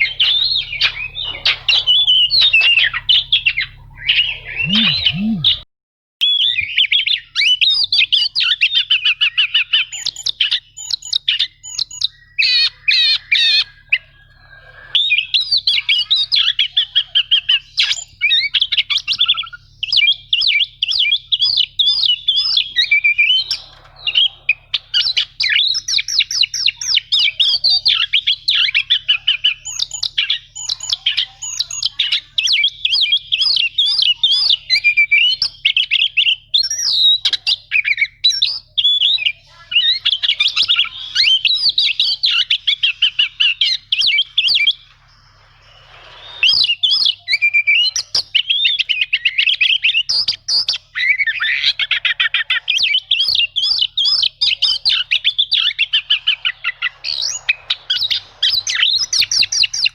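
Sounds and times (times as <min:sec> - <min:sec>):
bird singing chattering notes: 0:00.0 - 0:05.6, 0:06.2 - 0:14.4, 0:15.0 - 0:45.8, 0:46.4 - 0:59.9.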